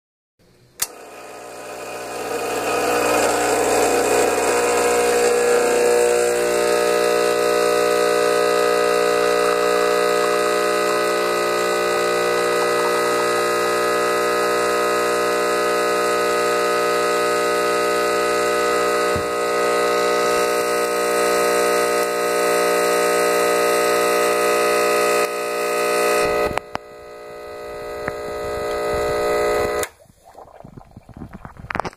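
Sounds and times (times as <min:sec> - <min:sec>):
espresso machine pump buzzing: 0:00.8 - 0:31.9.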